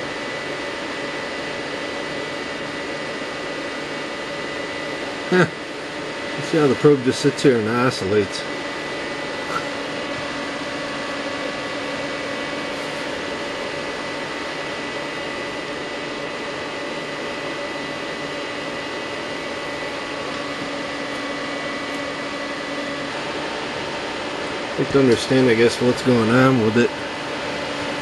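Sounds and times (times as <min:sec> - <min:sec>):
cooling fans whirring: 0:00.0 - 0:28.0
steady hum tones: 0:00.0 - 0:28.0.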